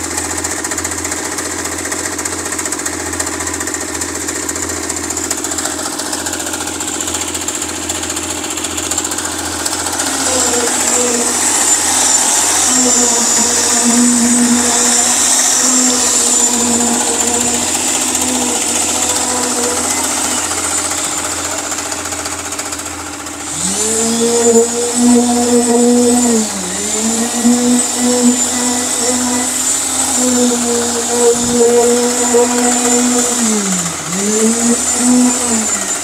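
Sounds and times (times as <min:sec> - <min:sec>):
concrete vibrator motor humming: 0:00.0 - 0:36.0.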